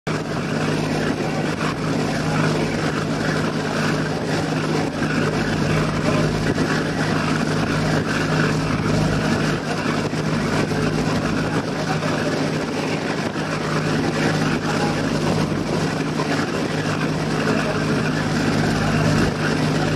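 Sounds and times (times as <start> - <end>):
constant rushing noise: 0.1 - 19.9
ferry engines droning: 0.1 - 19.9.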